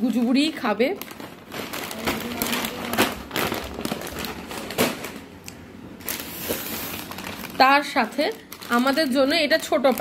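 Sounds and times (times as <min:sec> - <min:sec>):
plastic pouches crinkling: 0:00.0 - 0:10.0.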